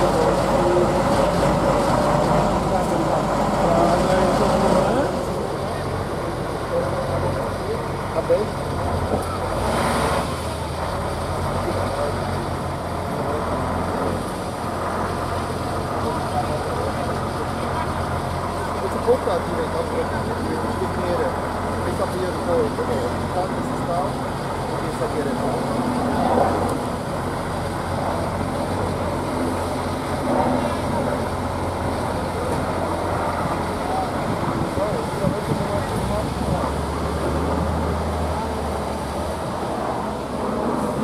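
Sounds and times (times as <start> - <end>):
faint voices: 0.0 - 41.0
truck engine running: 0.0 - 41.0.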